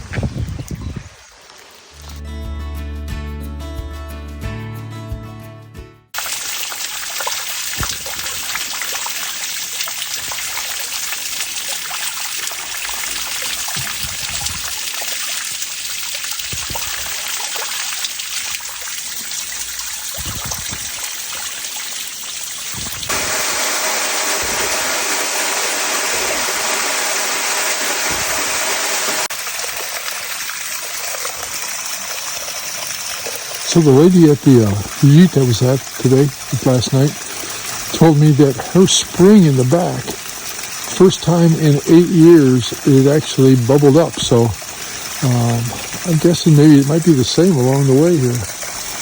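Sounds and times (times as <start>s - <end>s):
running water trickling and gushing: 0.0s - 2.2s, 6.2s - 49.0s.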